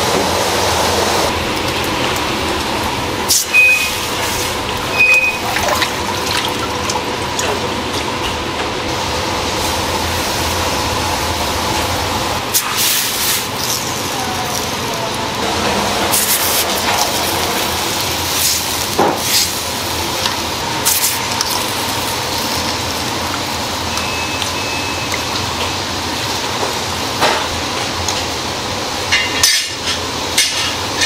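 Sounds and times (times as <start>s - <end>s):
rushing kitchen noise: 0.0s - 31.0s.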